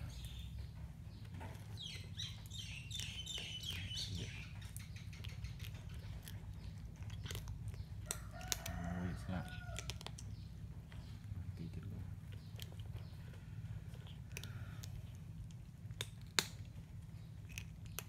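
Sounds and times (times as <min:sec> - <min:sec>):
bird chirping: 0:00.0 - 0:14.7
cat chewing bread: 0:00.0 - 0:18.0
low background hum: 0:00.0 - 0:18.0.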